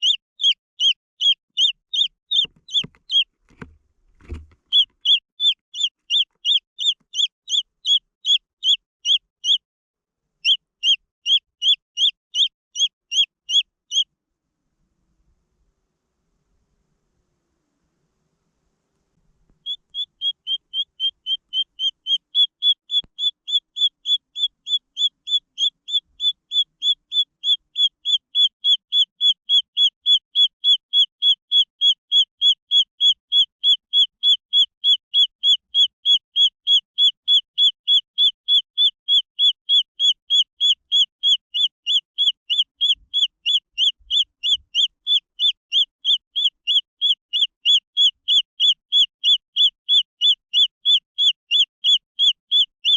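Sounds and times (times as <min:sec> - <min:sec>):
chick peeping: 0:00.0 - 0:09.6, 0:10.4 - 0:14.0, 0:19.5 - 0:52.9.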